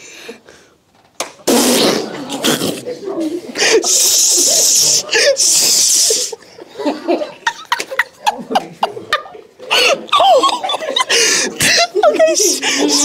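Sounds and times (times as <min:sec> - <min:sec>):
muffled giggles and snickers: 0:02.0 - 0:13.0.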